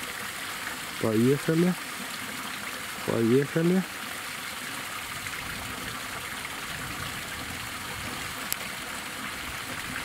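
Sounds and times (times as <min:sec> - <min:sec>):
flowing water: 0:00.0 - 0:10.0.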